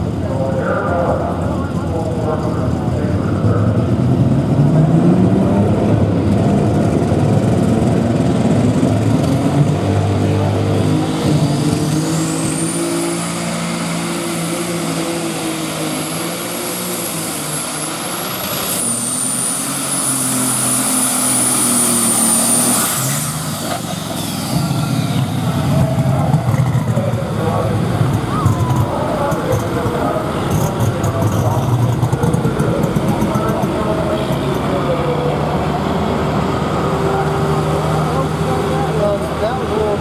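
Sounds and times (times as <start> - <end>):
diesel engine running under load: 0.0 - 40.0
turbocharger whine: 0.0 - 40.0.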